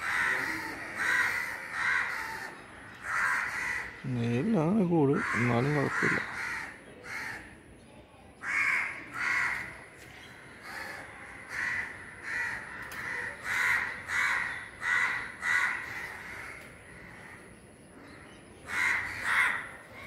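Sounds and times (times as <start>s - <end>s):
crows cawing: 0.0s - 4.1s, 5.0s - 7.6s, 8.4s - 9.9s, 10.5s - 20.0s.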